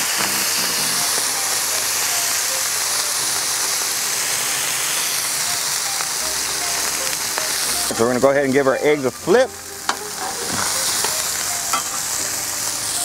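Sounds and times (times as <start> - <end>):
faint background music: 0.0 - 13.0
steaks and eggs sizzling on griddle: 0.0 - 13.0.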